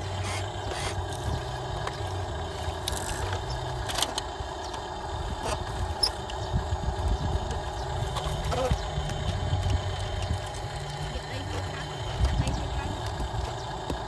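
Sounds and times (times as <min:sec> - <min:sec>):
toy truck electric motor hum: 0:00.0 - 0:14.0.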